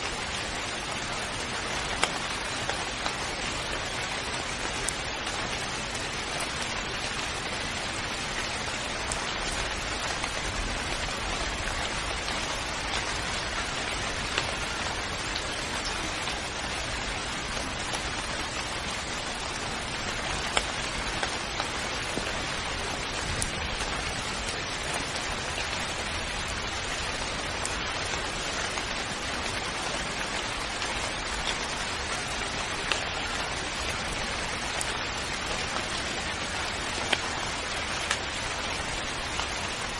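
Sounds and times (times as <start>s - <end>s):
steady rain hiss: 0.0s - 39.9s
raindrop ticks: 0.1s - 39.9s.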